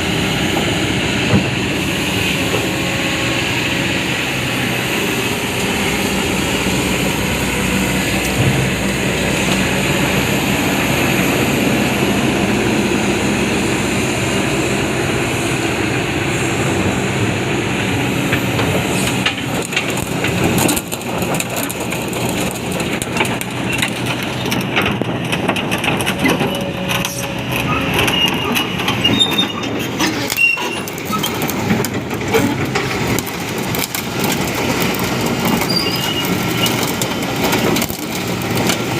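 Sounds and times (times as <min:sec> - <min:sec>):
excavator diesel engine running: 0:00.0 - 0:38.9
metallic track clanking: 0:00.0 - 0:38.9.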